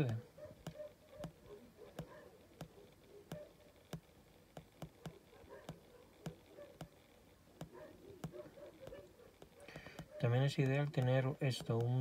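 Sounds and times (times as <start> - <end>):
faint computer clicks: 0.0 - 12.0.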